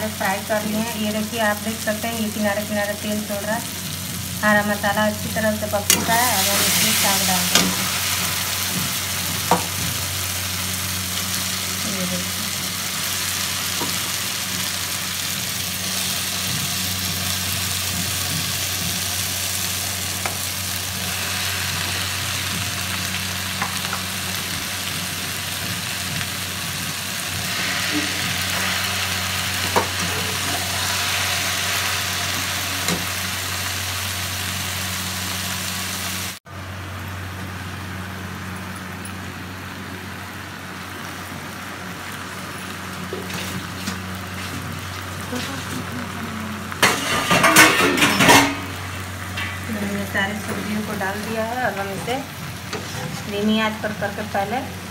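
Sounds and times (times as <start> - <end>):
greens sizzling in hot oil: 0.0 - 36.9, 39.3 - 54.9.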